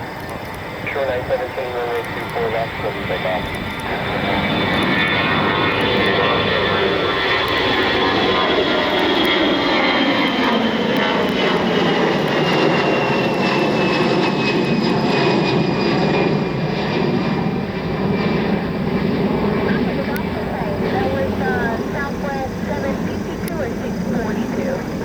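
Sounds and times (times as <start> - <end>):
high jet whine falling in pitch: 0.0 - 25.0
jet engines roaring past: 0.0 - 25.0.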